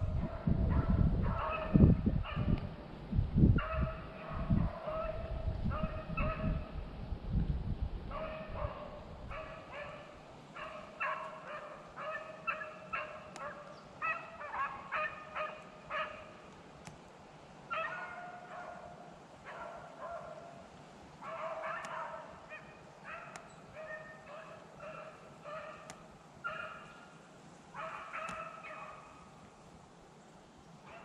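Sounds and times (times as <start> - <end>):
beagles baying and yelping: 0.0 - 2.6, 3.6 - 6.7, 8.1 - 16.5, 17.7 - 29.4.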